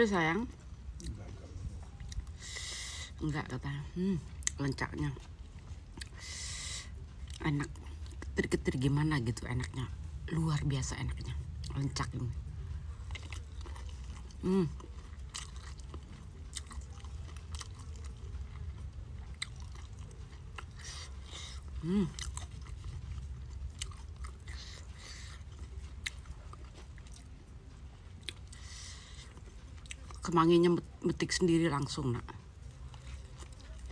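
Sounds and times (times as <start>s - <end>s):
chewing and crunching food: 0.1s - 33.9s.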